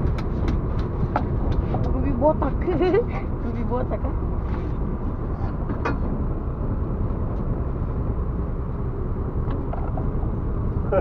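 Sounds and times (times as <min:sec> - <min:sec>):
boat engine rumble: 0:00.0 - 0:11.0
wind over water: 0:00.0 - 0:11.0.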